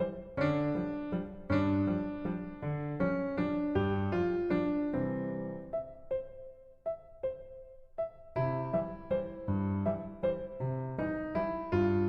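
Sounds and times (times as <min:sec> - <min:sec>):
piano playing chords with steady beat: 0:00.0 - 0:12.0.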